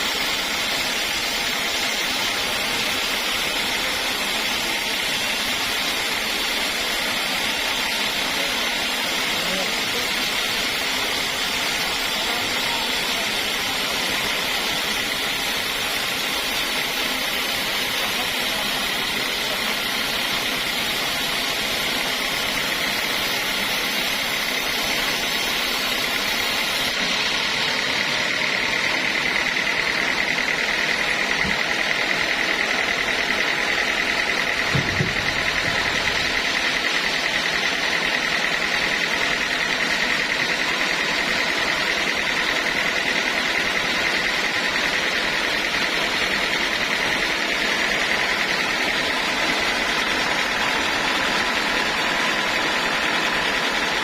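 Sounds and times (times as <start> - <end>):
sawmill saw whining: 0.0 - 54.0.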